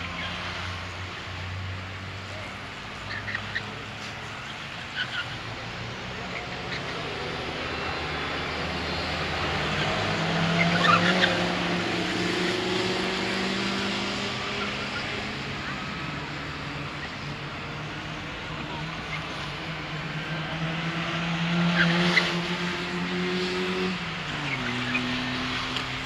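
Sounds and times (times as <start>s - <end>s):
small car engine: 0.0s - 26.0s.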